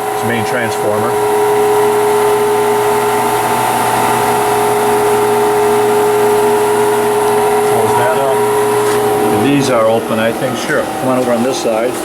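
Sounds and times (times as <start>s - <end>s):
machining center humming: 0.0s - 12.0s
pump and chiller running: 0.0s - 12.0s.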